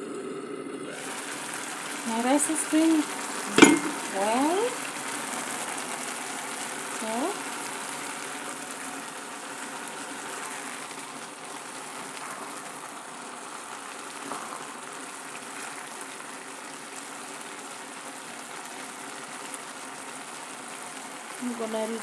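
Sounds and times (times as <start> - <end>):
water bubbling in a pot: 0.0 - 21.4.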